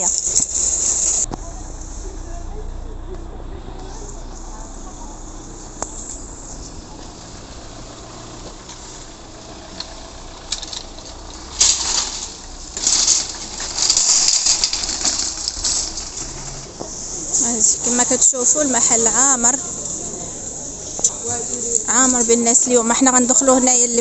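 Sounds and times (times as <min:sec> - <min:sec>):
shopping trolley rattling: 0:00.0 - 0:24.0.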